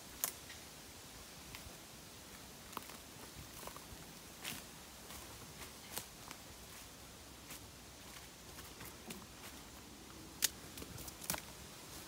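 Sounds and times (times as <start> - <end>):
wind rustling bamboo: 0.0 - 12.0.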